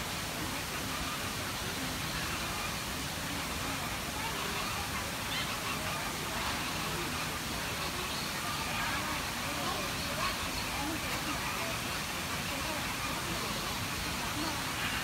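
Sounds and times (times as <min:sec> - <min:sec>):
faint distant voices: 0:00.0 - 0:15.0
outdoor background hiss: 0:00.0 - 0:15.0.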